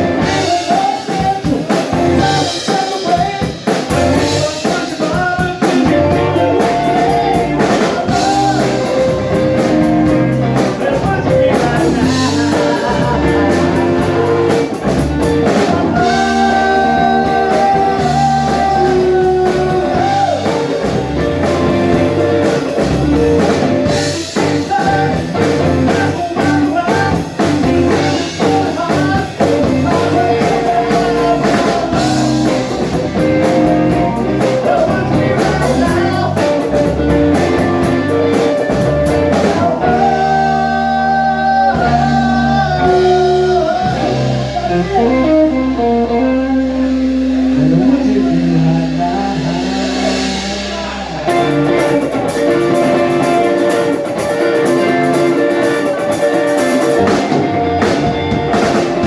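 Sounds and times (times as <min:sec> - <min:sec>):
drum kit: 0:00.0 - 0:59.0
electric guitar: 0:00.0 - 0:59.0
person singing: 0:00.0 - 0:59.0.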